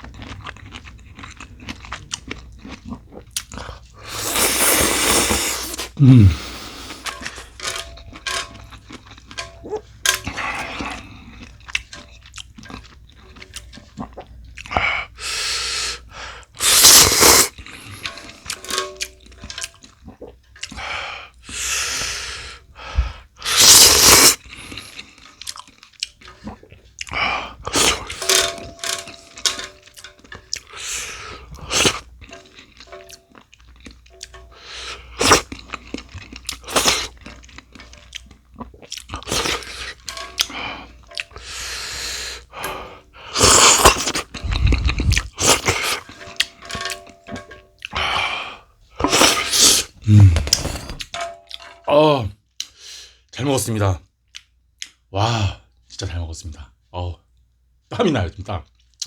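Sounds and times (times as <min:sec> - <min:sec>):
person chewing and crunching: 0:00.0 - 0:20.9, 0:23.5 - 0:51.6.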